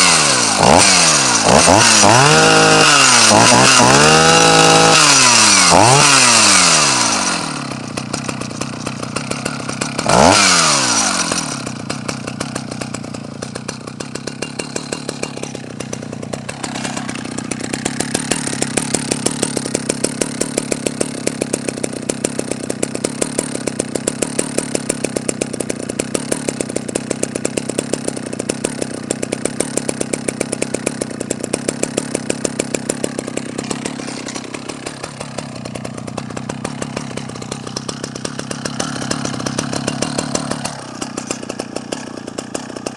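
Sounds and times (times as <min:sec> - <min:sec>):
chainsaw engine idling: 0:00.0 - 0:42.9.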